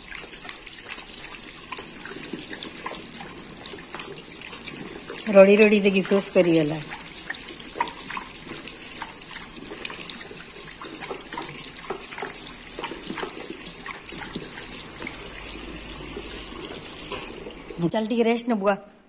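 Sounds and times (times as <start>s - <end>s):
dog lapping water: 0.0s - 17.9s
tap water running into basin: 0.0s - 18.5s.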